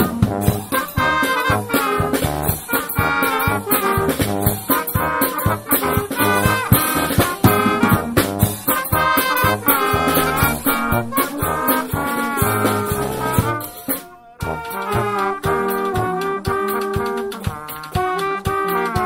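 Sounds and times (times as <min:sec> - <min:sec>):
brass band playing: 0:00.0 - 0:19.0
drum kit steady beat: 0:00.0 - 0:19.0.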